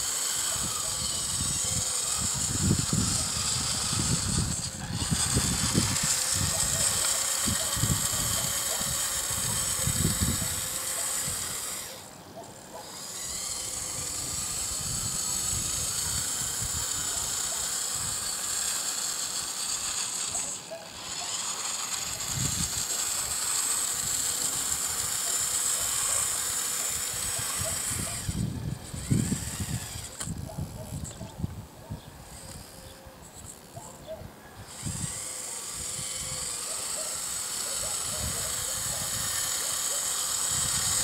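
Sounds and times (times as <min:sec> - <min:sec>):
toy electric motor whining: 0:00.0 - 0:41.0.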